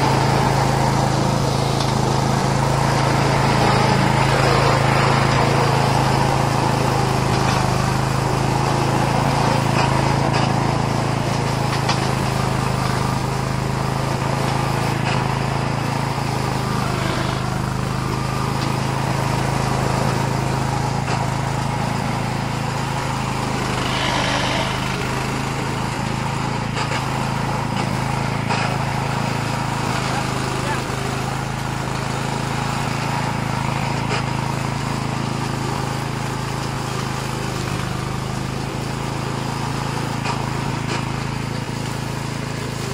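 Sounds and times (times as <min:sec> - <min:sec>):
blade cutting grass: 0:00.0 - 0:42.9
mower engine running: 0:00.0 - 0:42.9.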